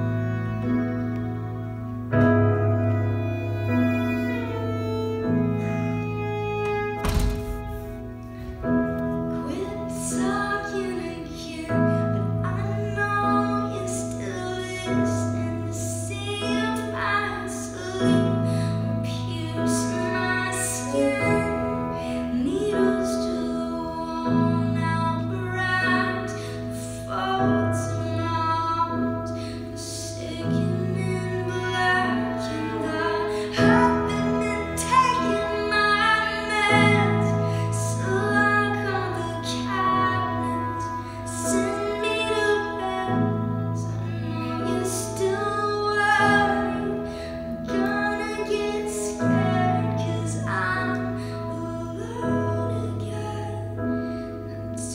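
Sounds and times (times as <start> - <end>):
keyboard chords: 0.0 - 54.9
violin playing: 0.0 - 54.9
woman singing: 9.2 - 54.9.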